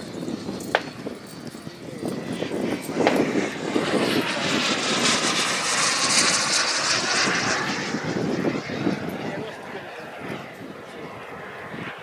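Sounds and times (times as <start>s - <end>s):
model jet high whine: 0.0s - 12.0s.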